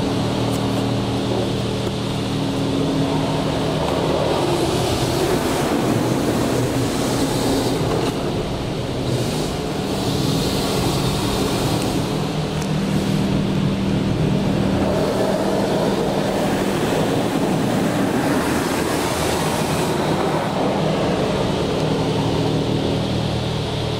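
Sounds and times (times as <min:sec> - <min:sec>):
water jets spraying on car: 0:00.0 - 0:23.9.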